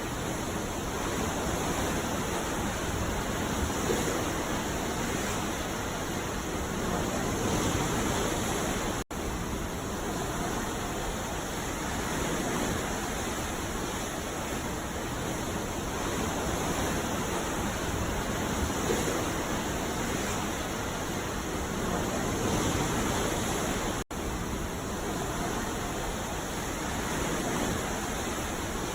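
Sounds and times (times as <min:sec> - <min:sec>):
ocean waves breaking: 0:00.0 - 0:28.9.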